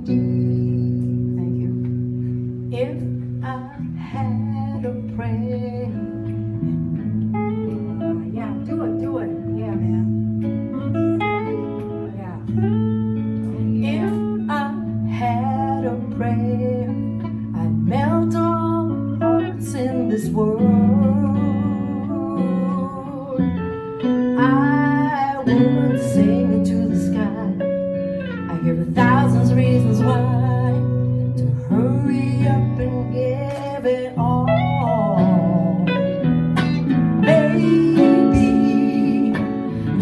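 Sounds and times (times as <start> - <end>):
acoustic guitar melody: 0.0 - 40.0.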